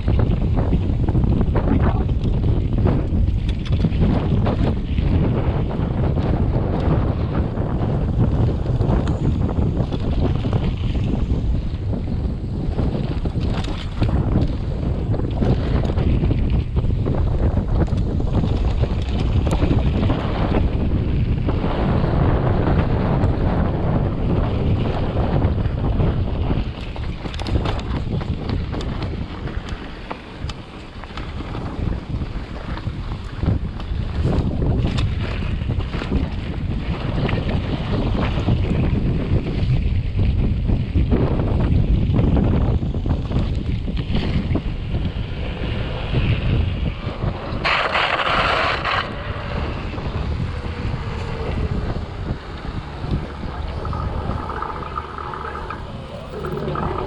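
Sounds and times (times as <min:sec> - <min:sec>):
bike tyres rumbling on dirt: 0:00.0 - 0:57.0
wind buffeting microphone: 0:00.0 - 0:57.0.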